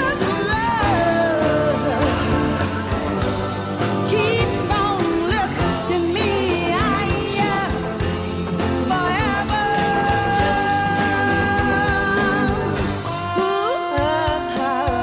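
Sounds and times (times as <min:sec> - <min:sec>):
person singing: 0:00.0 - 0:02.9, 0:04.0 - 0:15.0
band playing a steady beat: 0:00.0 - 0:15.0.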